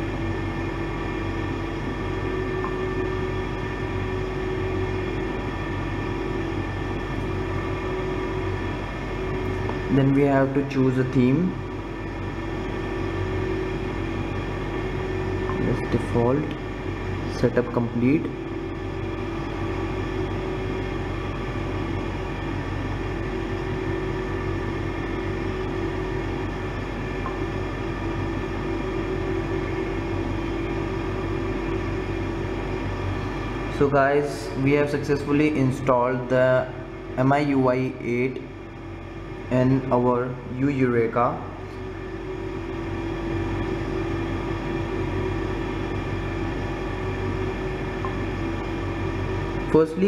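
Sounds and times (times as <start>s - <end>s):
machine hum: 0.0s - 50.0s.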